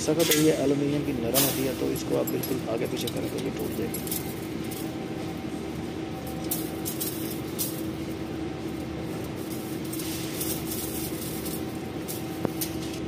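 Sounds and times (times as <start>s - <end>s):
metal wires scraping and clinking: 0.0s - 13.0s
steady background hum: 0.0s - 13.0s.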